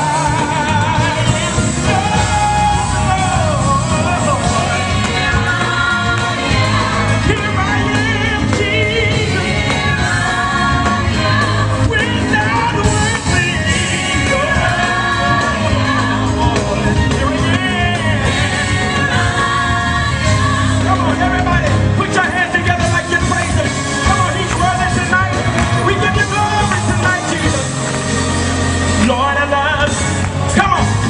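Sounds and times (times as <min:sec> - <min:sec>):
bass line: 0:00.0 - 0:31.0
gospel choir singing: 0:00.0 - 0:31.0.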